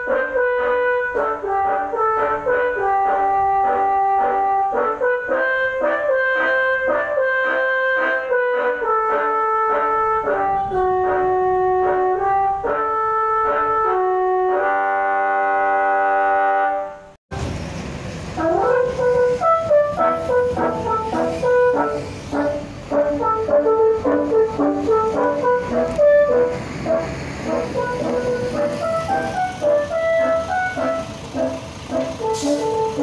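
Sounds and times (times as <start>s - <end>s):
musical air horns playing tune: 0.0s - 17.2s, 18.3s - 33.0s
road noise: 0.0s - 33.0s.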